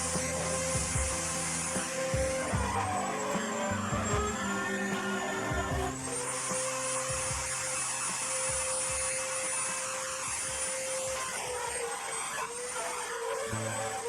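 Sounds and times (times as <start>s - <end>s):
power tool whining: 0.0s - 14.0s.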